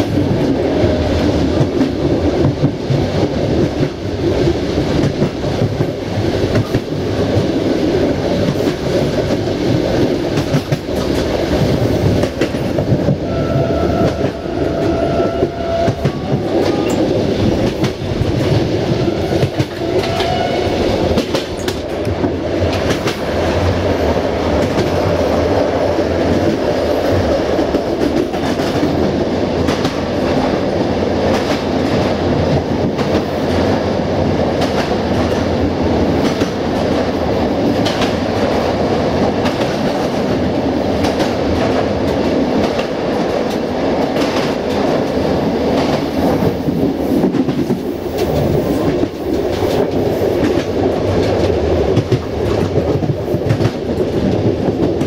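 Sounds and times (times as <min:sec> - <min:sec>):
clickety-clack over rail joints: 0:00.0 - 0:55.0
train wheels rumbling on rail: 0:00.0 - 0:55.0.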